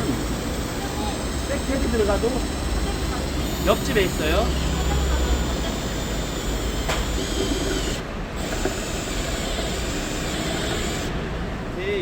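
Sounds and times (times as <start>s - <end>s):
electric drill boring metal: 0.0s - 11.2s.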